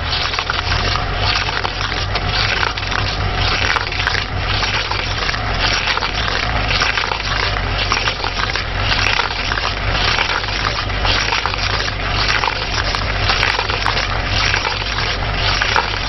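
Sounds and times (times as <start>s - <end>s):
machine humming: 0.0s - 16.0s
rushing noise with crackles: 0.0s - 16.0s.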